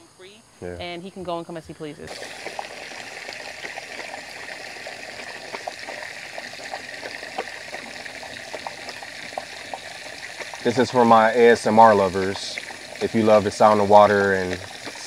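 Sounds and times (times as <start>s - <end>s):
dog drinking: 2.1s - 15.0s
hose water trickling into bowl: 2.1s - 15.0s.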